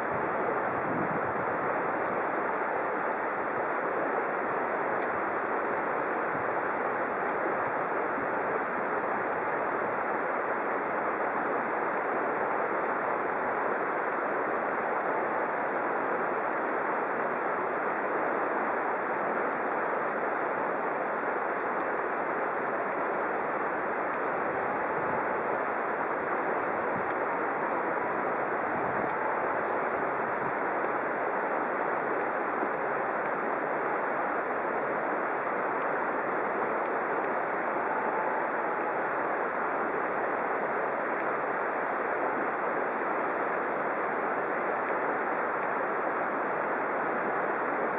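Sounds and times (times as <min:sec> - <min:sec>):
flowing water rushing: 0:00.0 - 0:47.9.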